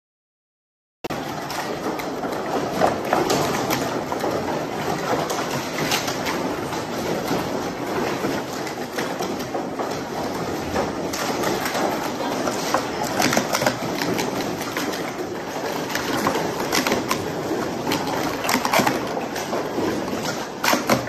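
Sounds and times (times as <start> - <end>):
plastic cups clattering: 1.1 - 21.0
plastic cups clicking: 1.1 - 21.0.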